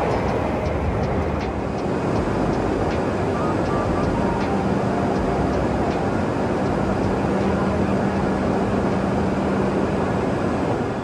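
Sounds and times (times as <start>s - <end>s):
mechanical rumble: 0.0s - 10.4s.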